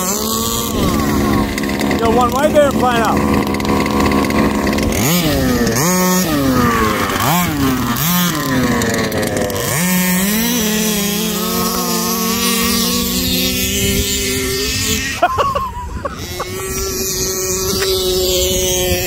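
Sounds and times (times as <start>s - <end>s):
small two-stroke engines revving: 0.0s - 19.0s.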